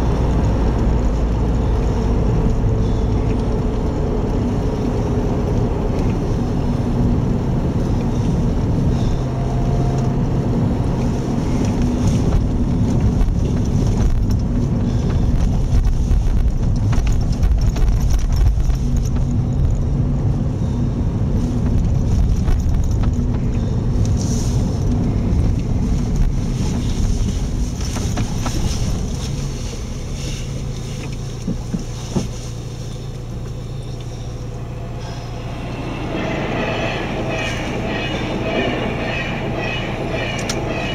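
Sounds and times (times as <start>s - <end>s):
car engine hum: 0.0s - 40.9s.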